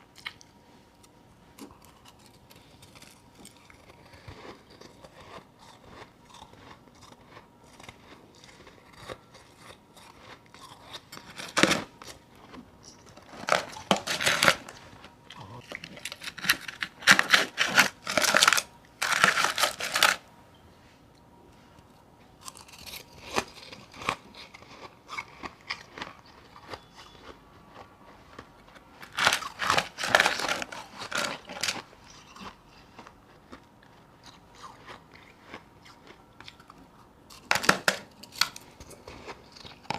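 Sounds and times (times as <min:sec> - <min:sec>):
ice crunching as chewed: 0:00.1 - 0:20.3, 0:22.4 - 0:39.9.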